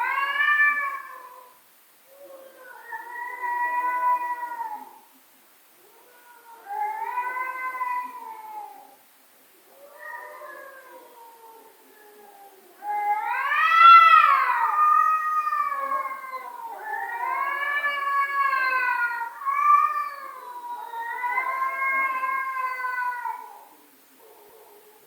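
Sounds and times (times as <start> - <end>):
cat yowling: 0.0 - 5.0, 5.8 - 9.0, 9.8 - 25.0.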